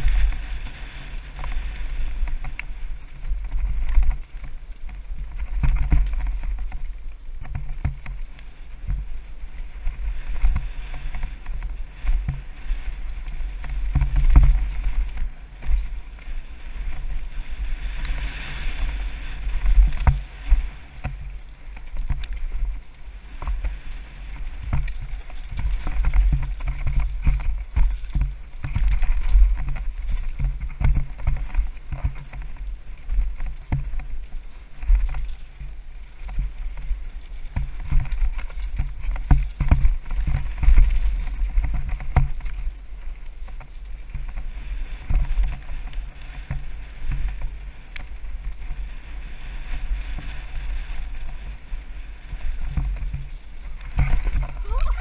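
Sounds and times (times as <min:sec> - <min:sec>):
bike knocks and rattles: 0:00.0 - 0:48.8, 0:52.4 - 0:54.7
bike tyres on dirt: 0:00.0 - 0:55.0
wind rumble on microphone: 0:00.0 - 0:55.0.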